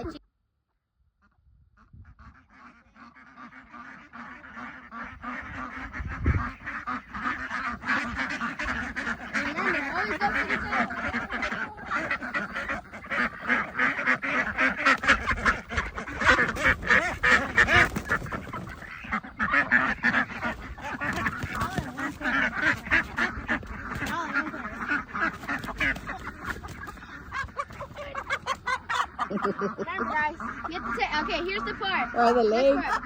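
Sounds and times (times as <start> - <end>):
poultry calling harshly: 1.2 - 33.0.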